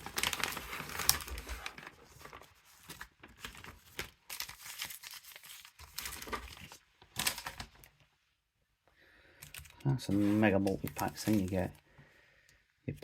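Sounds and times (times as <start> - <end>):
crinkly packaging rustling: 0.0 - 8.2, 9.3 - 11.9.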